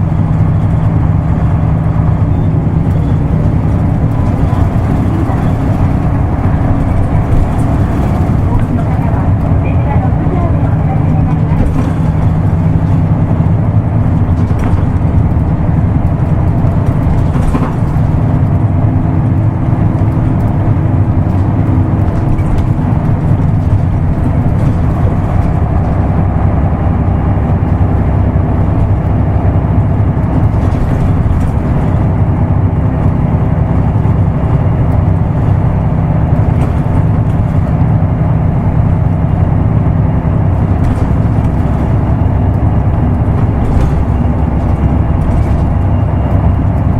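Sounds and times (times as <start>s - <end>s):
bus diesel engine drone: 0.0s - 46.9s.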